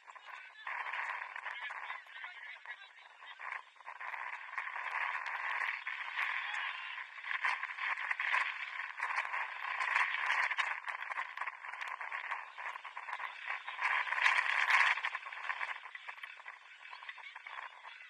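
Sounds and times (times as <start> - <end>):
rough steady noise with clicks: 0.0 - 18.0.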